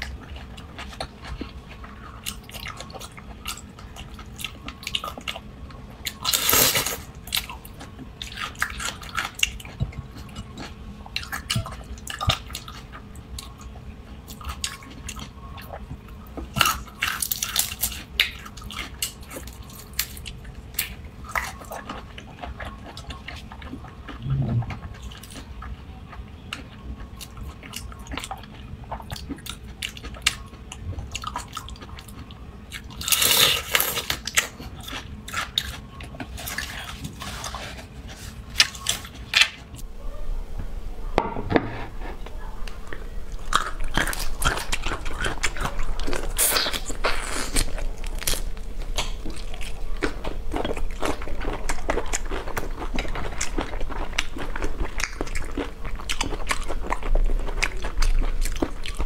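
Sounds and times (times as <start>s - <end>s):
chewing: 0.0s - 39.8s, 42.2s - 59.0s.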